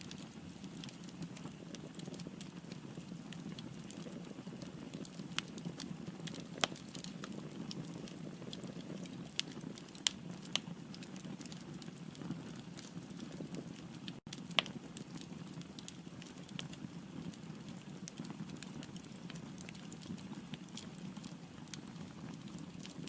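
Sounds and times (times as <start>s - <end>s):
firewood crackling and popping: 0.0s - 23.0s
low rumble of flame: 0.0s - 23.0s.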